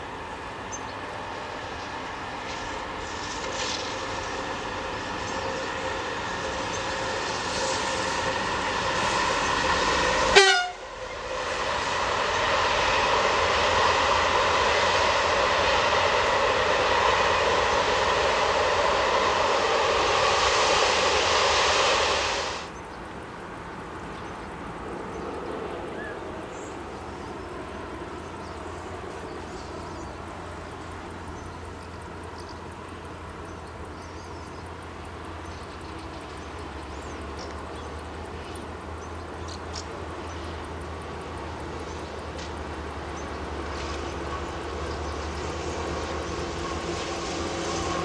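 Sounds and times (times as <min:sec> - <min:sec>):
train rolling past: 0:00.0 - 0:48.0.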